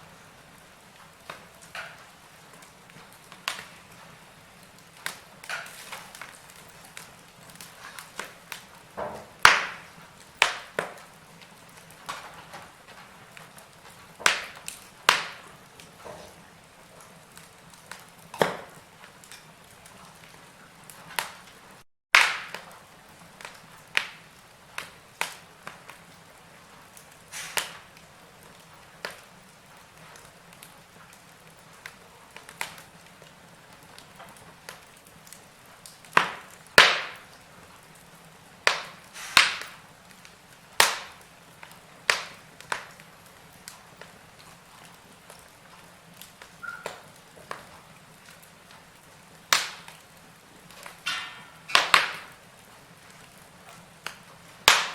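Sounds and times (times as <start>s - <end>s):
soft fire hiss: 0.0s - 54.9s
wood fire crackling and popping: 0.0s - 54.9s.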